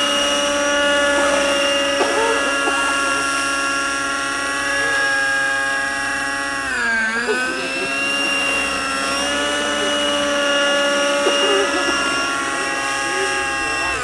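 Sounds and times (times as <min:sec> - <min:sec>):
model helicopter engines whining: 0:00.0 - 0:14.0.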